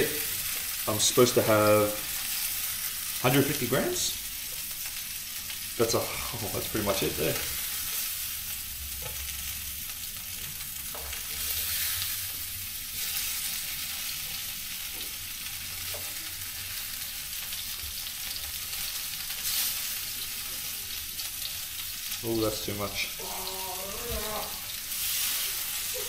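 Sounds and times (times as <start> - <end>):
fish sizzling in frying pan: 0.0 - 26.0.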